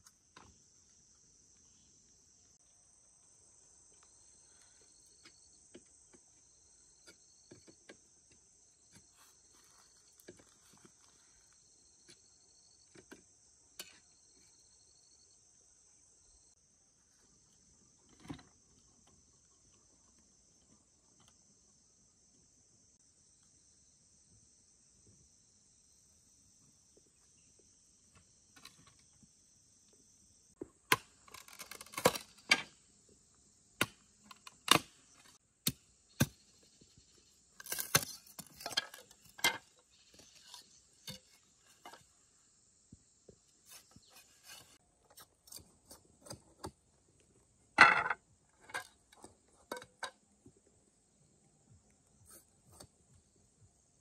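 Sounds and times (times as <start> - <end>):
insects trilling: 0.0 - 45.6.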